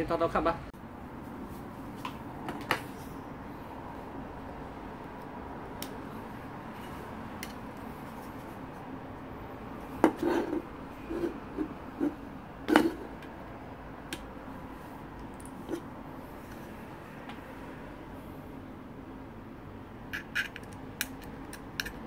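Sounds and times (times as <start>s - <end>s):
steady low hum: 0.6s - 22.0s.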